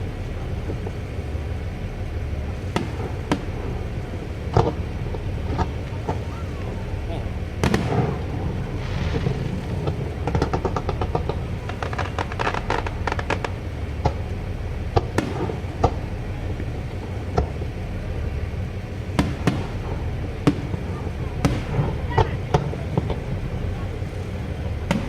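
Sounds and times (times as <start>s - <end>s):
fireworks crackling and banging: 0.0s - 25.0s
steady low rumble: 0.0s - 25.0s.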